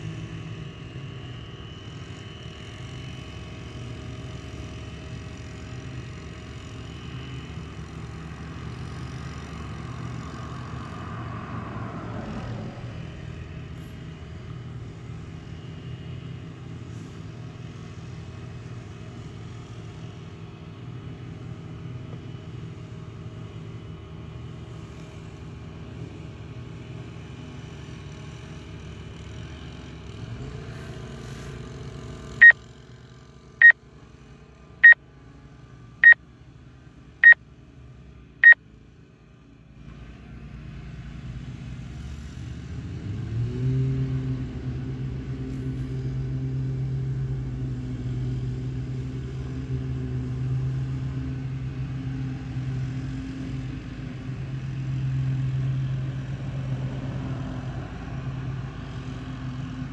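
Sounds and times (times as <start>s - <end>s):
low engine hum: 0.0s - 59.9s.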